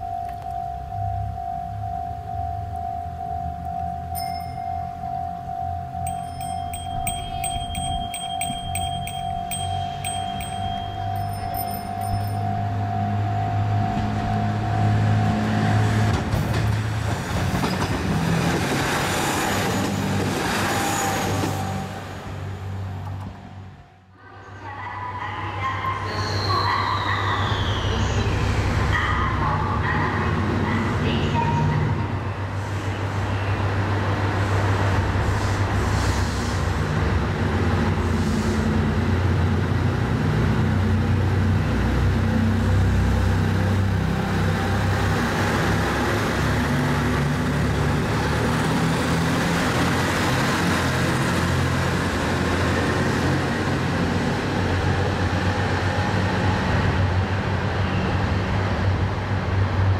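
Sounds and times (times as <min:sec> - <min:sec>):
diesel train engines accelerating: 0:00.0 - 0:59.9.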